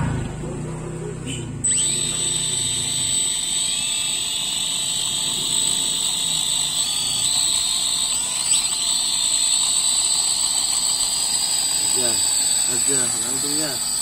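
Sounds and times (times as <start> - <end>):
toy drone motors whining: 1.6 - 14.0.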